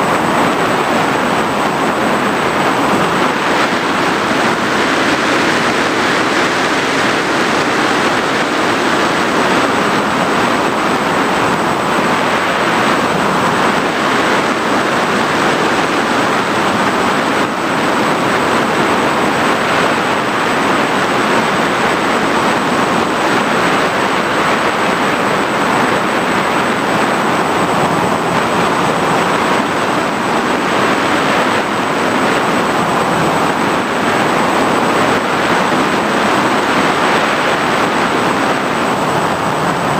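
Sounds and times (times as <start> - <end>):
drone motors and propellers: 0.0 - 39.9
wind noise: 0.0 - 39.9.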